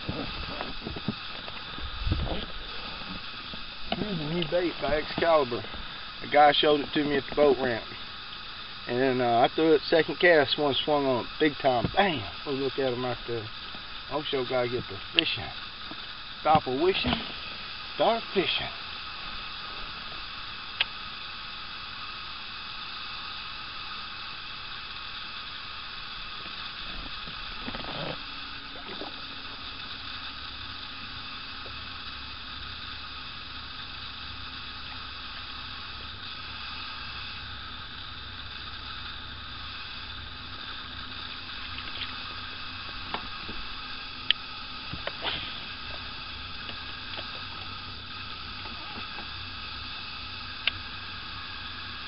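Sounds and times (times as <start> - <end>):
open-air hiss: 0.0 - 52.0.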